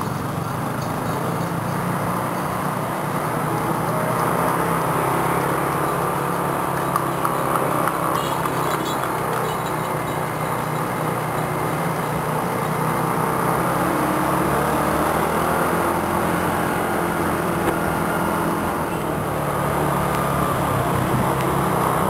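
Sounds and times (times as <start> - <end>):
motor scooter engine running: 0.0 - 22.0
traffic noise: 0.0 - 22.0.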